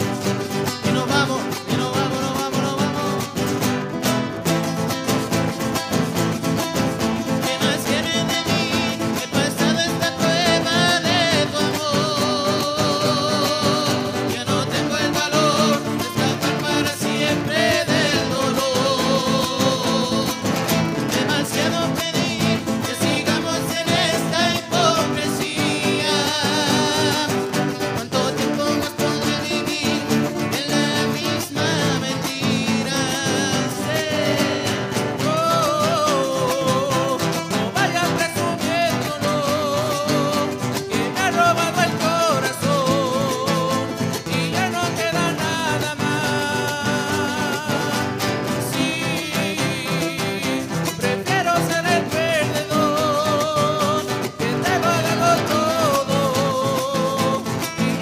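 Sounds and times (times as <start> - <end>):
acoustic guitars strumming: 0.0 - 58.0
people singing with vibrato: 0.0 - 58.0.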